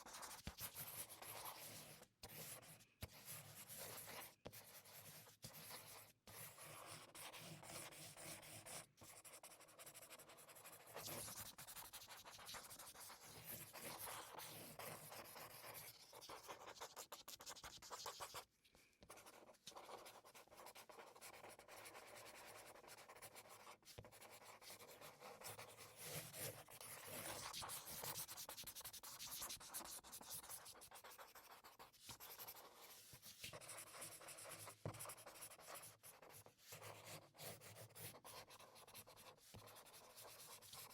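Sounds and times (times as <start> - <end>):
marker pen scratching: 0.0 - 40.9.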